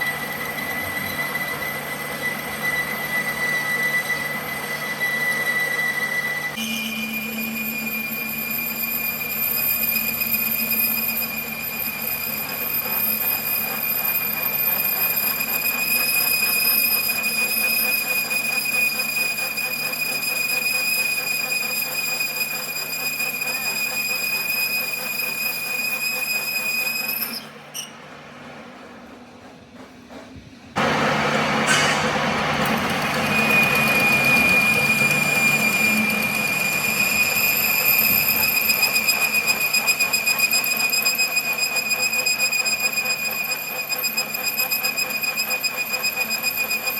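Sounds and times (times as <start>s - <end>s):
metal machining squeal: 0.0s - 28.2s, 30.8s - 46.9s
running machine noise: 0.0s - 46.9s.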